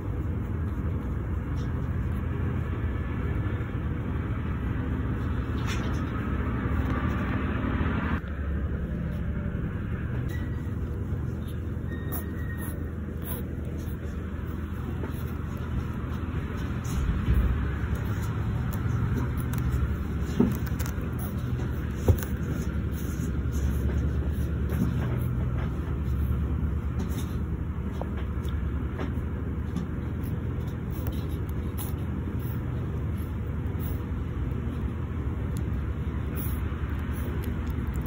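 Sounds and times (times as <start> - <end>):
low background rumble: 0.0 - 38.0.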